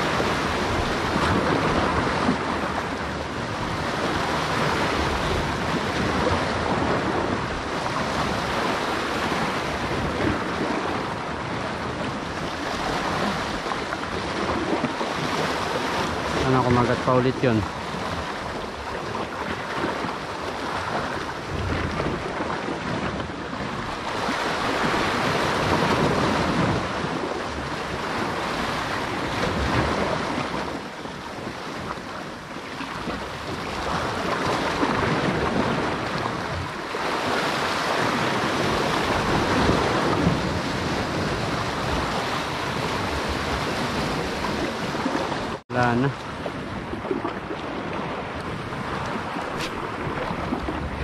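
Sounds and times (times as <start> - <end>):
sea surf washing on rocks: 0.0 - 51.0
wind buffeting microphone: 0.0 - 51.0.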